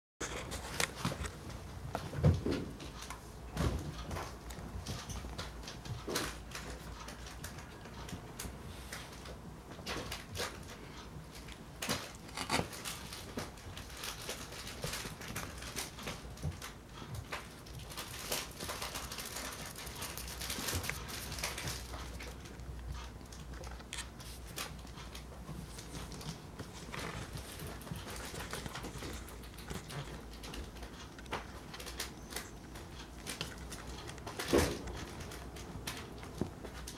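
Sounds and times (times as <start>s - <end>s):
kittens scratching fabric: 4.0s - 36.9s.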